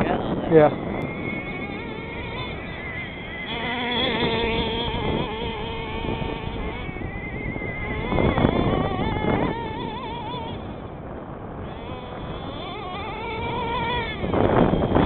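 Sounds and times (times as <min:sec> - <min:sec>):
small nitro engine whining: 0:00.0 - 0:15.0.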